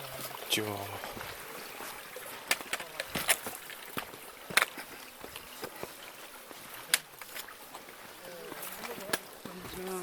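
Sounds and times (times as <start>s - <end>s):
footsteps on rocky trail: 1.0s - 10.0s.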